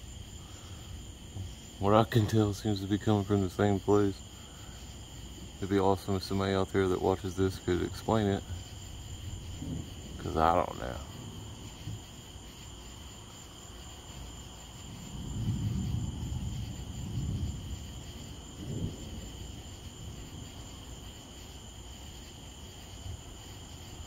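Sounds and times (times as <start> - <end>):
crickets chirping: 0.0 - 24.0
distant thunder rumble: 0.0 - 24.0.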